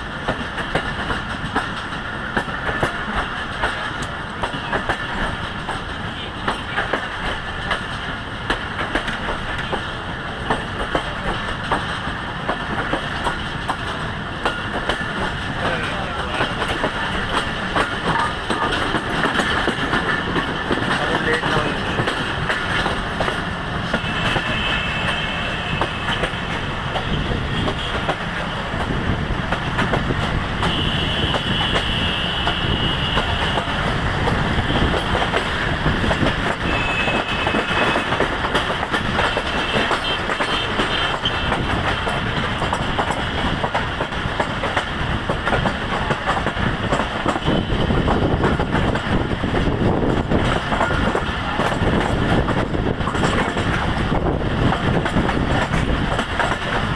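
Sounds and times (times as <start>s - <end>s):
train wheels clattering on rails: 0.0s - 56.9s.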